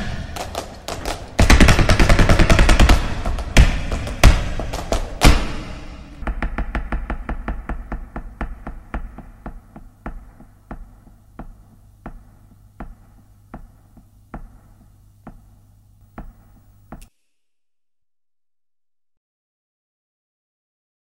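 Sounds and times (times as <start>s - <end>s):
low steady hum: 0.0s - 17.1s.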